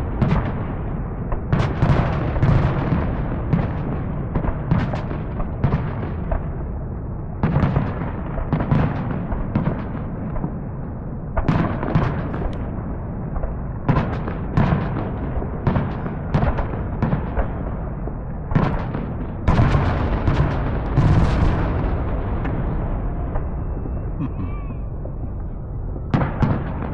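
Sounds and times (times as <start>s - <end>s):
fireworks bangs and crackling pops: 0.0s - 26.9s.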